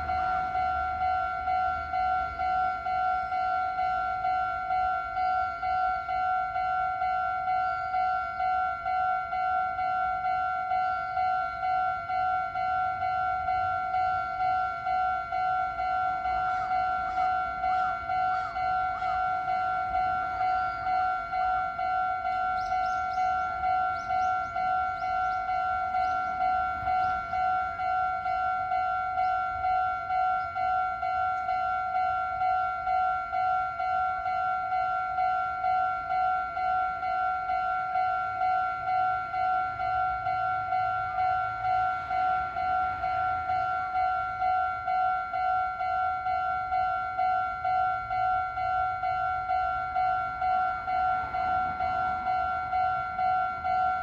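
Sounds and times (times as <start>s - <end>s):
level crossing alarm bell: 0.0s - 54.0s.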